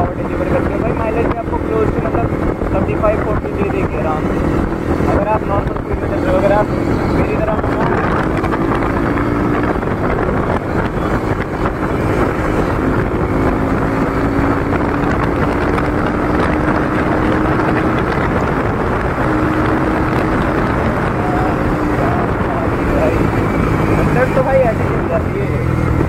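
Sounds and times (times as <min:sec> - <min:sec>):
motorcycle engine running: 0:00.0 - 0:26.0
wind buffeting microphone: 0:00.0 - 0:26.0.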